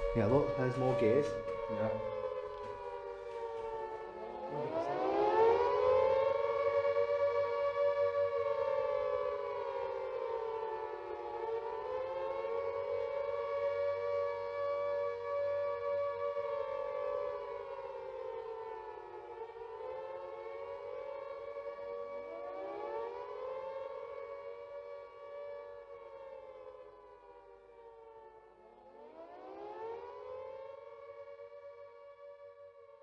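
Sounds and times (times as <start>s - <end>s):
air-raid siren wailing: 0.0s - 33.0s.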